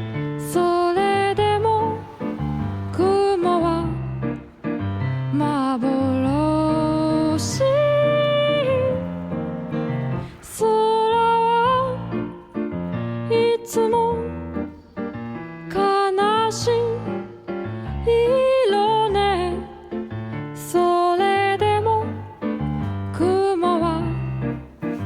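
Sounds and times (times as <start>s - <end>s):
piano and keyboard: 0.0s - 25.0s
woman singing: 0.4s - 4.6s, 5.2s - 14.7s, 15.7s - 25.0s.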